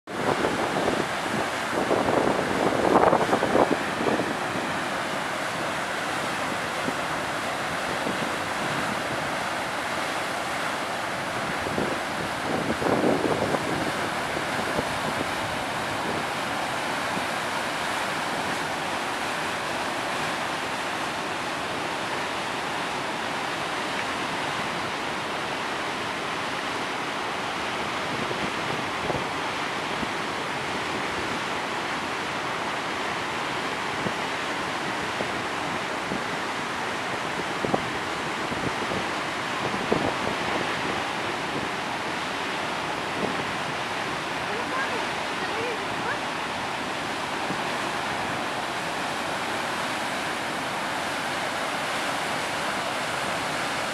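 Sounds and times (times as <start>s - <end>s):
wind on microphone: 0.1s - 21.2s, 27.8s - 31.5s, 33.8s - 53.9s
waterfall roaring: 0.1s - 53.9s.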